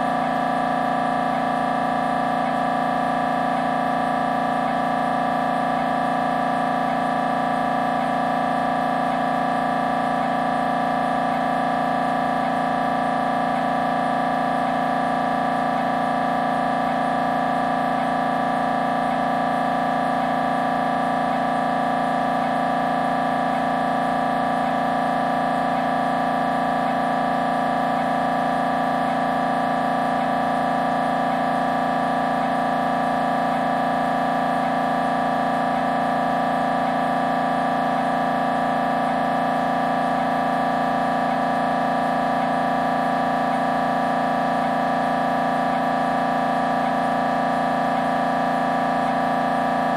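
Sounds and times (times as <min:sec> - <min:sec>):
mri scanner electronic drone: 0:00.0 - 0:49.9.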